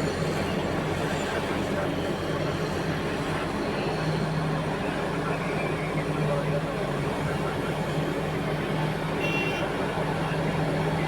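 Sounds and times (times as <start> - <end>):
heavy diesel engines droning: 0.0 - 11.0.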